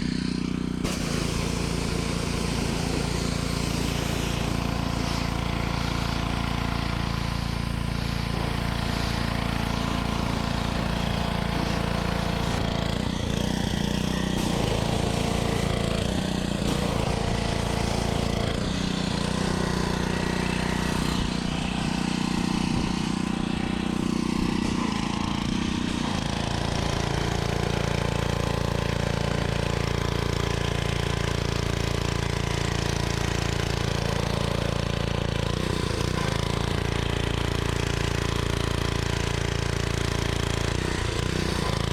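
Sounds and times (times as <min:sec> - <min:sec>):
small engine running: 0:00.0 - 0:41.9.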